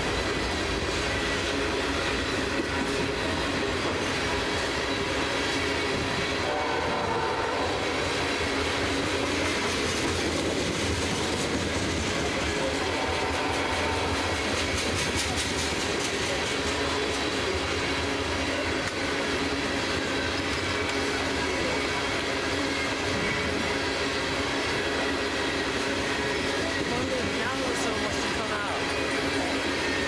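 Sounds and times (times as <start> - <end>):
rapid clicks of train wheels: 0.0 - 30.0
train wheels rumbling on rail: 0.0 - 30.0.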